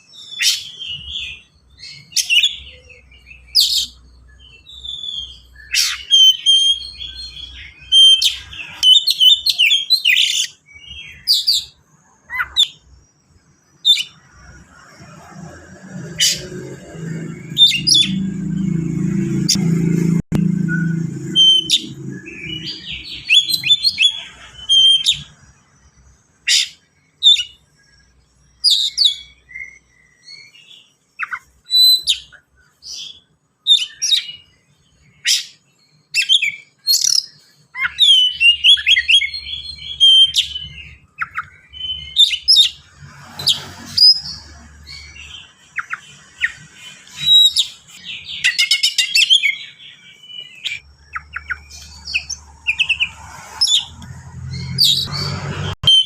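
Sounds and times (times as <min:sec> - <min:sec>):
bird singing whistled notes: 0:00.0 - 0:13.0, 0:19.4 - 0:25.4, 0:26.5 - 0:56.0.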